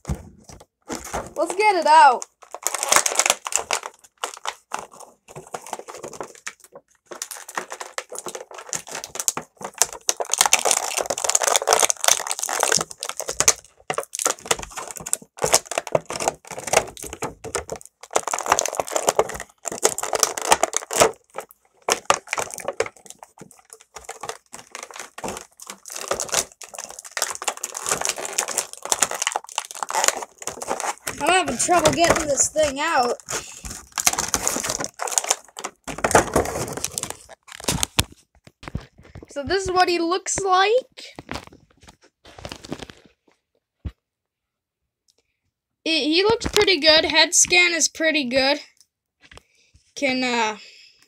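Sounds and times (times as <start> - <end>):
plastic packaging crackling: 0.0 - 40.4, 41.0 - 43.2.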